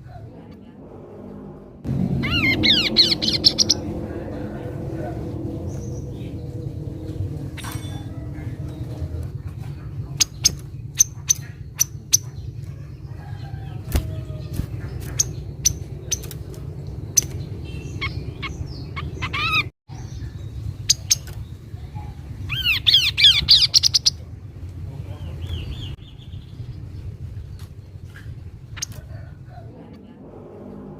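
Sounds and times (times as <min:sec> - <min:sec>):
low background hum: 0:00.0 - 0:30.9
bird chirping: 0:01.9 - 0:30.9.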